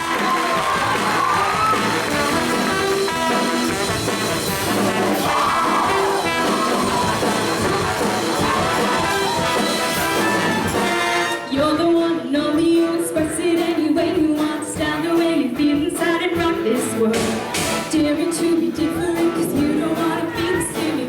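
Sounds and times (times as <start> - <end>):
upbeat band with brass: 0.0 - 21.0.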